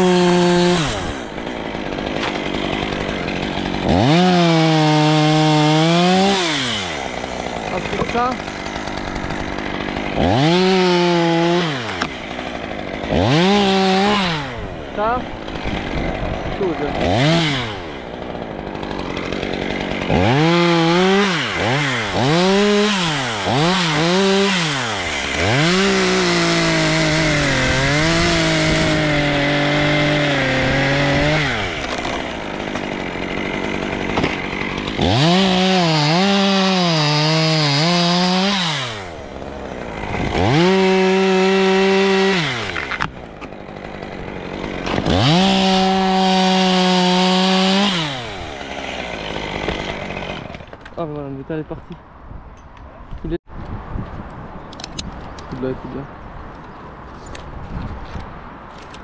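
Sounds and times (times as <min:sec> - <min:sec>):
chainsaw revving and cutting wood: 0:00.0 - 0:51.6.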